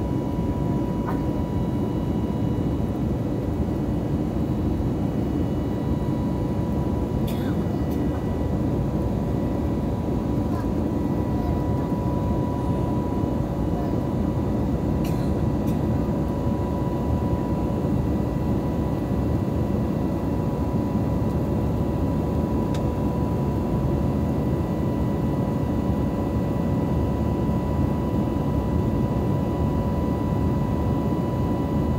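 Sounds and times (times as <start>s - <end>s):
airplane cabin engine drone: 0.0s - 31.9s
thin steady whine: 0.0s - 31.9s.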